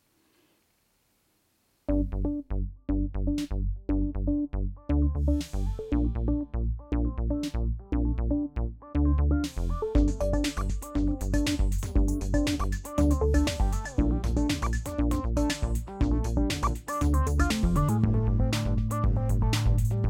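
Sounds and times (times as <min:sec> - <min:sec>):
background music with steady beat: 0:01.9 - 0:20.0.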